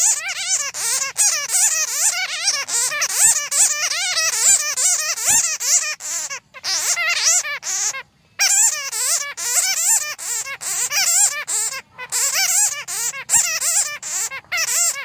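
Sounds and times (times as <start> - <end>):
bats chattering: 0.0 - 15.0.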